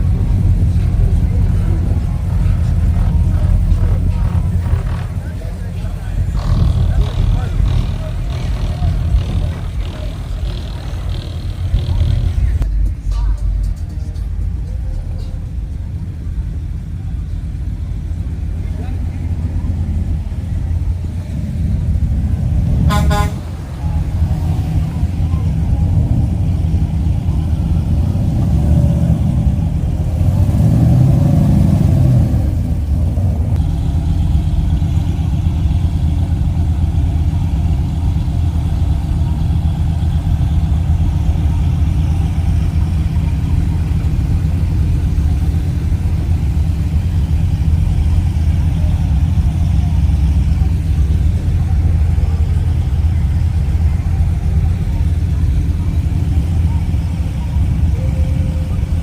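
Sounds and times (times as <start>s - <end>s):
car engine rumbling: 0.0s - 59.0s.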